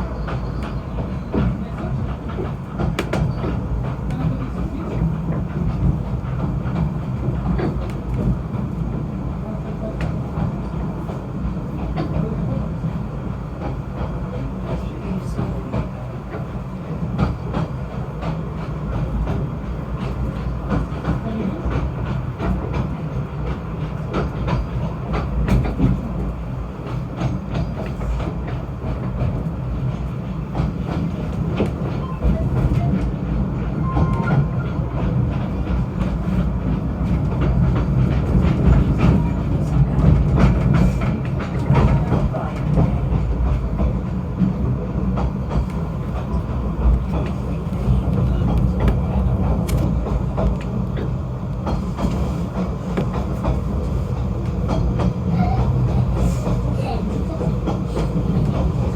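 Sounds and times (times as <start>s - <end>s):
train rumbling: 0.0s - 58.9s
wheels clicking on track: 0.1s - 58.9s.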